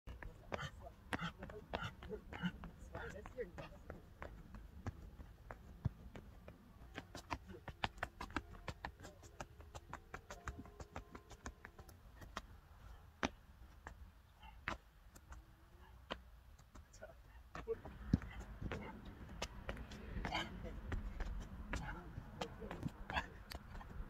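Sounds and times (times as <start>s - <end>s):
trainers tapping on rubber track: 0.1s - 12.5s, 14.6s - 24.0s.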